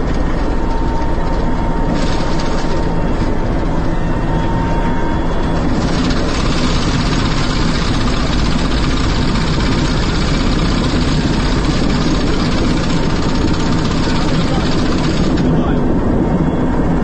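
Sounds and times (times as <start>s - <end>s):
helicopter engine and rotor noise: 0.0s - 17.0s.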